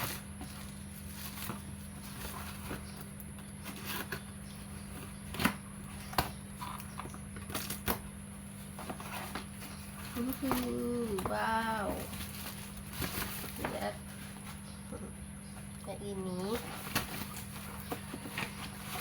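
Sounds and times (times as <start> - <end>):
packaging rustling and crinkling: 0.0 - 14.8, 16.3 - 19.0.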